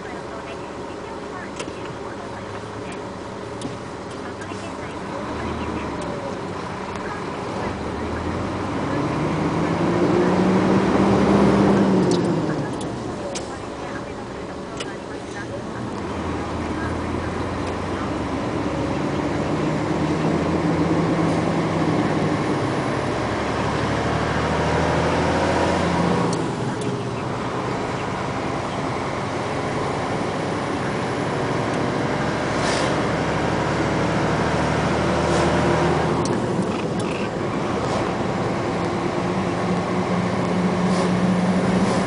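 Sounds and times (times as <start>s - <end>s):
road noise: 0.0s - 42.0s
truck diesel engine droning: 0.0s - 42.0s.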